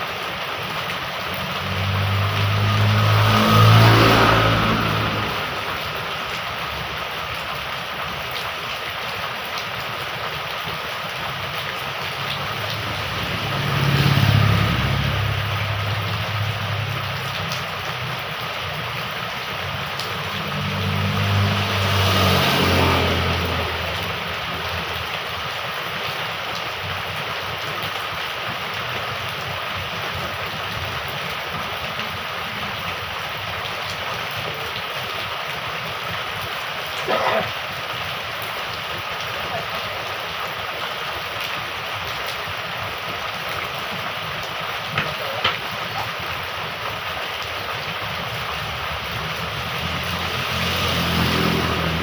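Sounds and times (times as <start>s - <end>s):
heavy rain falling: 0.0s - 52.0s
motor vehicles passing: 0.1s - 52.0s.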